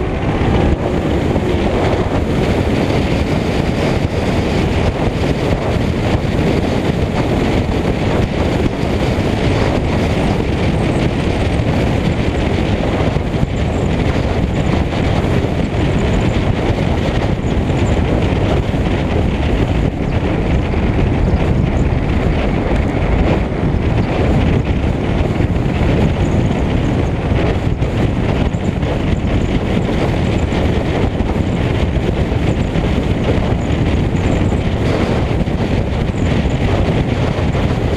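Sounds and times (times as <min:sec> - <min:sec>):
tyre and road noise: 0:00.0 - 0:37.9
wind rushing over camera: 0:00.0 - 0:37.9.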